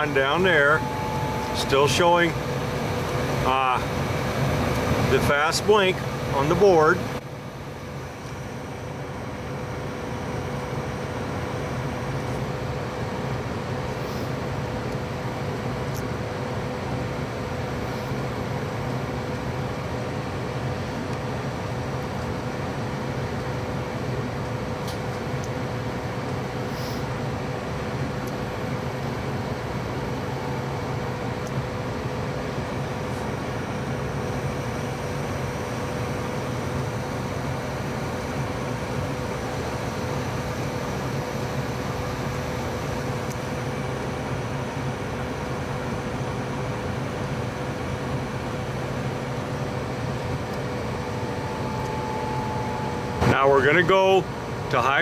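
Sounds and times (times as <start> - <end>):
gas furnace running: 0.0 - 55.0.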